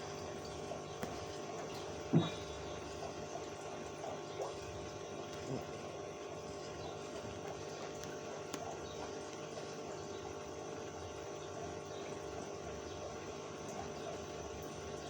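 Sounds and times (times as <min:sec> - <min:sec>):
aquarium pump running: 0:00.0 - 0:15.0.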